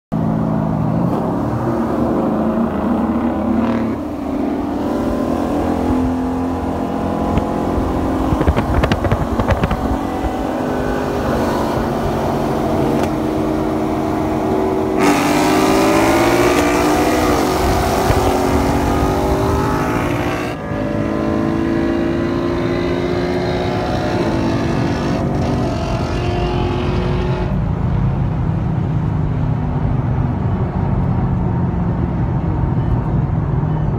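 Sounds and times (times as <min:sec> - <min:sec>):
car engines revving at full throttle: 0:00.1 - 0:33.9.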